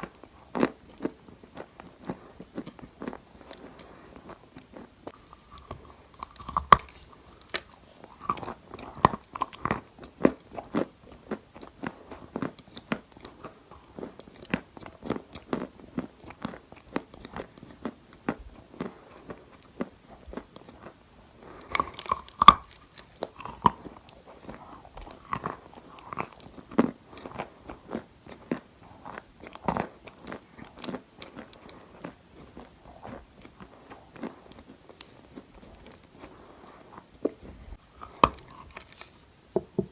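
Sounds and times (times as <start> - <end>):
clay being bitten and chewed: 0.0 - 39.9.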